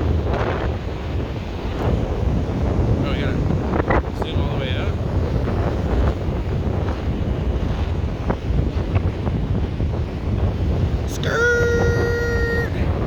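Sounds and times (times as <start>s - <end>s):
heavy surf: 0.0s - 13.0s
wind buffeting microphone: 0.0s - 13.0s.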